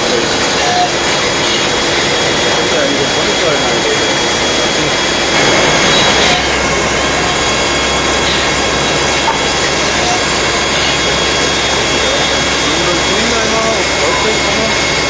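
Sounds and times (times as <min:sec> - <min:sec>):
high whine: 0:00.0 - 0:15.0
lathe machining noise: 0:00.0 - 0:15.0
low hum: 0:00.0 - 0:15.0.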